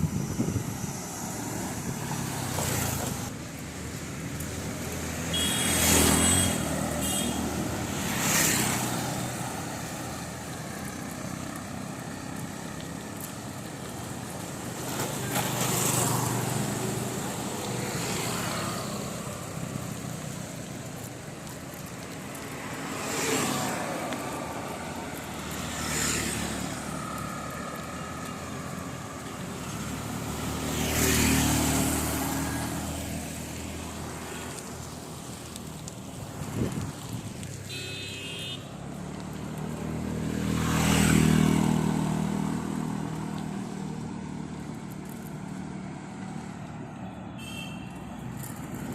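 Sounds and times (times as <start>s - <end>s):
steady street noise: 0.0s - 48.9s
vehicles passing close by: 0.0s - 48.9s.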